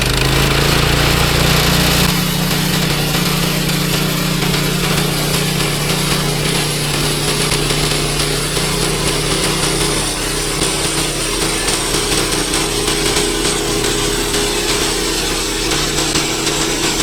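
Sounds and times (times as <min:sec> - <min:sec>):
faint high whine rising: 0:00.0 - 0:17.0
small gasoline engine running: 0:00.0 - 0:17.0.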